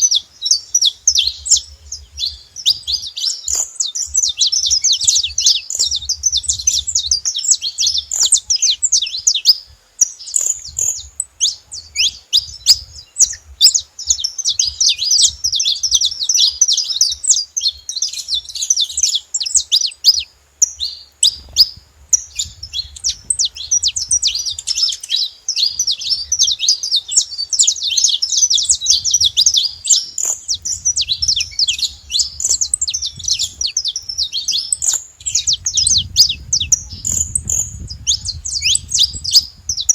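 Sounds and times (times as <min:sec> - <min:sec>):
finch chirping: 0:00.0 - 0:39.9.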